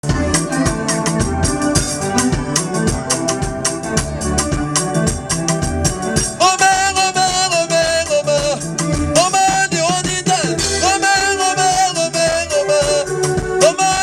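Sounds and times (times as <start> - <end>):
bass: 0.0 - 14.0
fast percussion: 0.0 - 14.0
organ-like keyboard chords: 0.0 - 14.0
wavering held melody line: 0.0 - 14.0.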